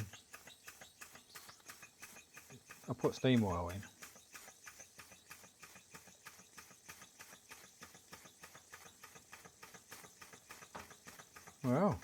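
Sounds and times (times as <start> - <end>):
model steam engine chuffing: 0.0 - 12.0.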